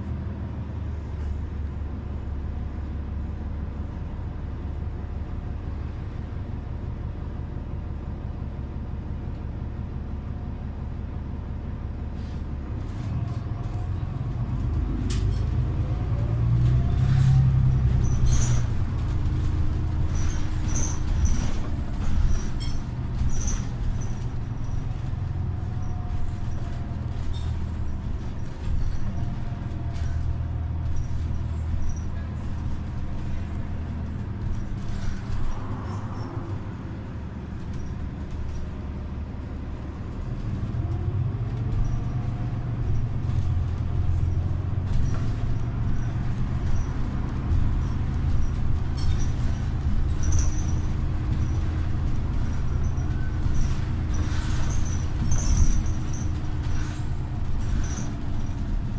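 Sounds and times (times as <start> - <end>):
bus engine low hum: 0.0 - 58.9.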